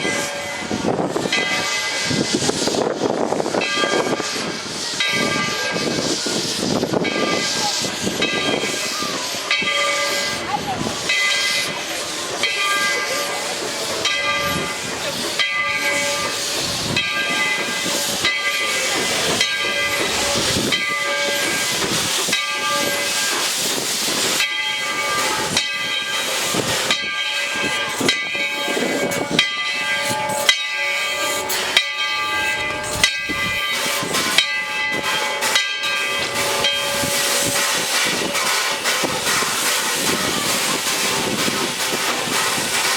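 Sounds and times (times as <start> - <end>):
steam locomotive hissing rhythmically: 0.0 - 42.9.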